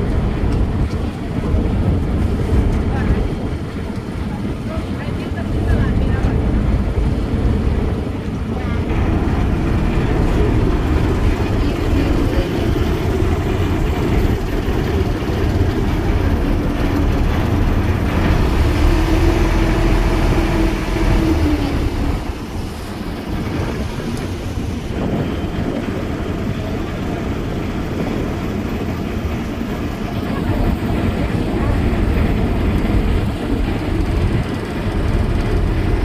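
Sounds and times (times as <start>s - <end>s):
ferry engine rumbling: 0.0s - 36.0s.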